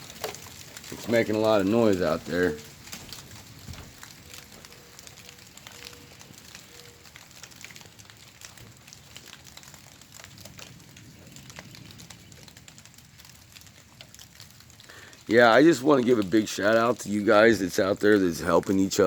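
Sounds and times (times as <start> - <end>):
rain drops pattering: 0.0 - 19.0.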